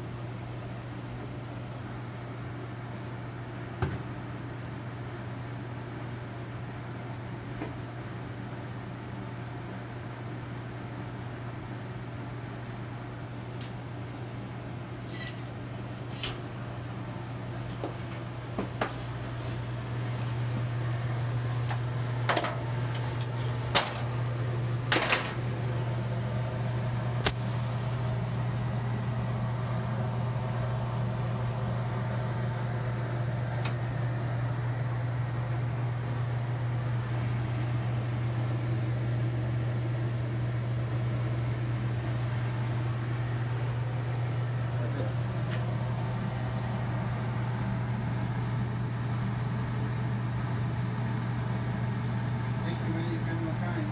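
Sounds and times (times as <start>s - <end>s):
low machine hum: 0.0s - 53.9s.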